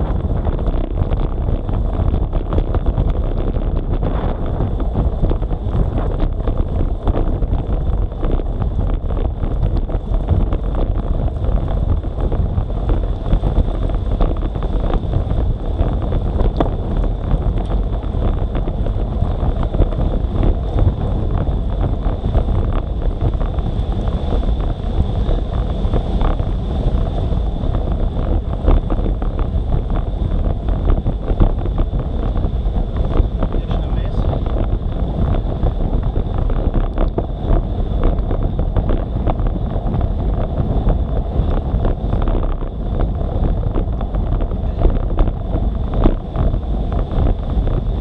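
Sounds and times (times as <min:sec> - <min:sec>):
wind rumble on microphone: 0:00.0 - 0:48.0.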